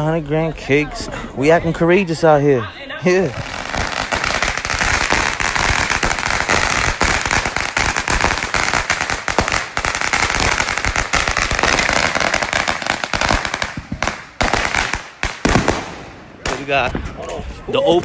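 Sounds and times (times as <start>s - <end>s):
firecrackers popping and banging: 3.2s - 18.0s.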